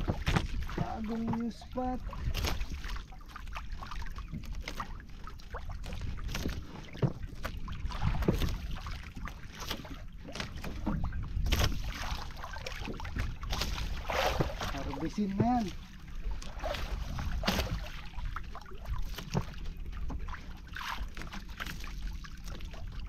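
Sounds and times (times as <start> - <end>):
wind buffeting microphone: 0.0 - 20.4
water lapping against hull: 0.0 - 23.0.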